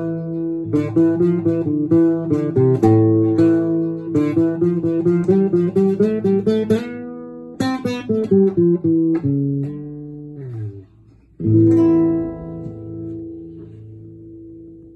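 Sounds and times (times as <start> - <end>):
classical guitar fingerstyle: 0.0 - 14.9.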